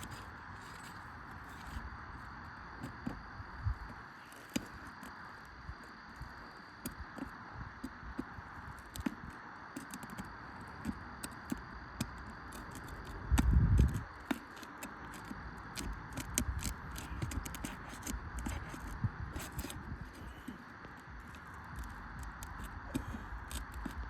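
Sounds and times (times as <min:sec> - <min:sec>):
clicks and scrapes on shingle: 0:00.0 - 0:24.0.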